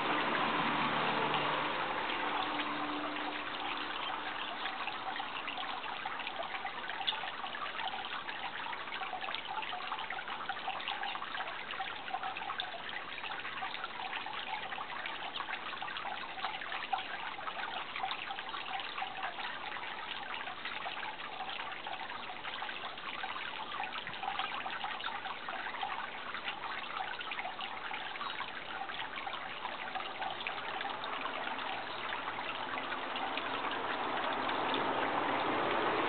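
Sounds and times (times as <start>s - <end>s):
water trickling: 0.0s - 36.0s.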